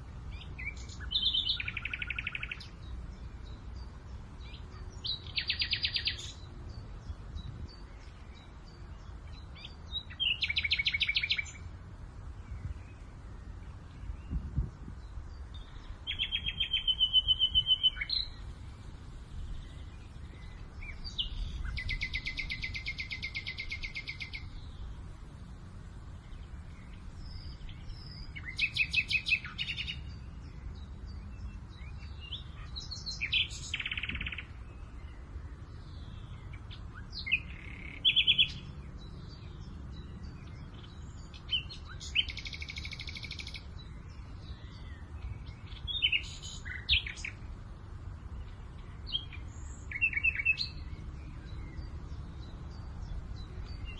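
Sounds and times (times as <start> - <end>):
songbirds trilling: 0.0 - 53.9
wind rumble on microphone: 0.0 - 53.9.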